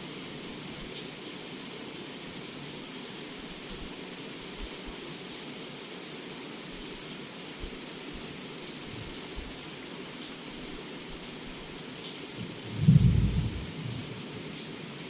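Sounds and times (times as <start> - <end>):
heavy rain against a window: 0.0 - 15.0.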